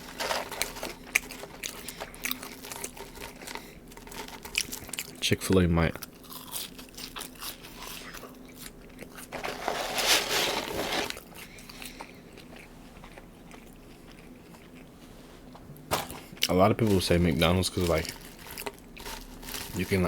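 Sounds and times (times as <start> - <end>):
person crunching and chewing food: 0.0 - 15.0, 16.2 - 20.0.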